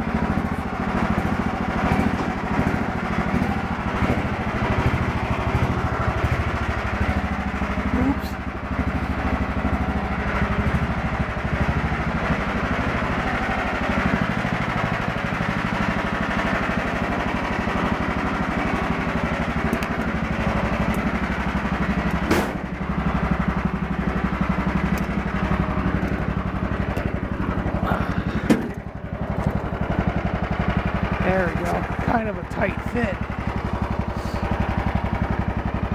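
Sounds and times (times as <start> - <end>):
lawn tractor engine running: 0.0 - 35.9.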